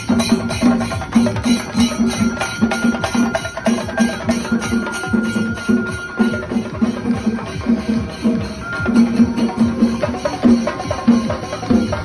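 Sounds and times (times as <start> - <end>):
drum ensemble playing fast rhythm: 0.0 - 12.0.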